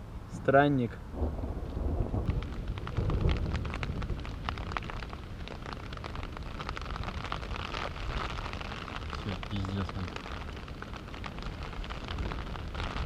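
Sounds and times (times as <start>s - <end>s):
low rumbles: 0.0s - 13.0s
rain on a tent: 0.0s - 13.0s.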